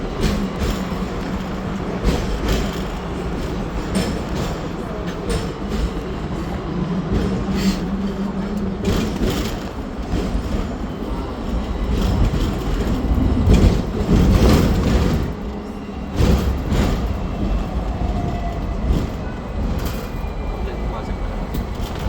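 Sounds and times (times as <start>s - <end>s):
tram rumbling on rails: 0.0s - 22.0s.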